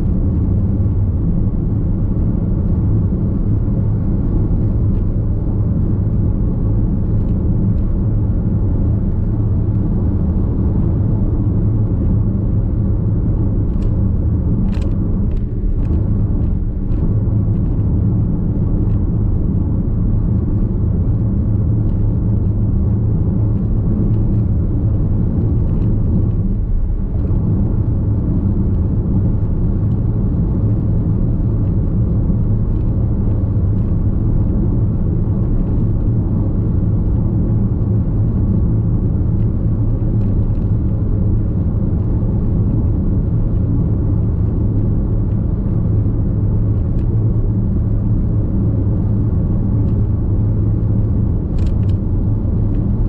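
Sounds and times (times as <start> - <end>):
road and tyre rumble in car: 0.0 - 53.0.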